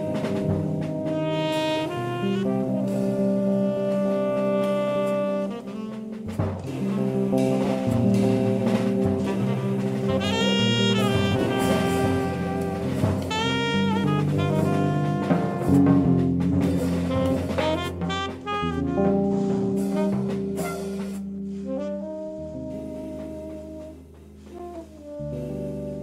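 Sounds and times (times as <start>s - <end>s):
drum kit with cymbals: 0.0s - 26.0s
electric bass: 0.0s - 26.0s
saxophone melody: 0.0s - 26.0s.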